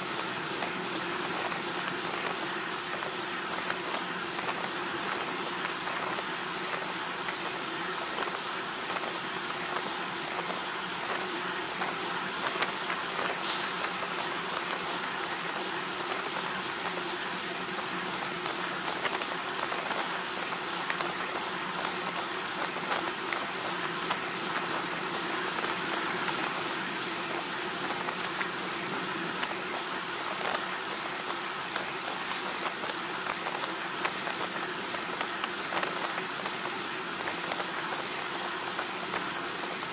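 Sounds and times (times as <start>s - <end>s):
road and wind noise: 0.0s - 39.9s
sharp hiss: 0.0s - 39.9s.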